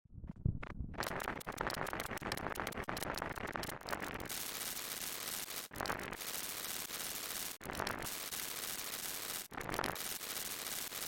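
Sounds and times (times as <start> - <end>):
crackling static hiss: 1.0 - 11.0.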